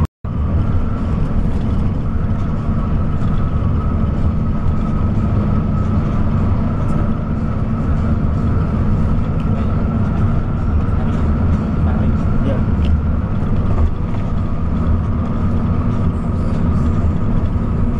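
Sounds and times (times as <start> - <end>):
bus engine and road rumble: 0.0 - 17.9
high whine: 0.0 - 17.9.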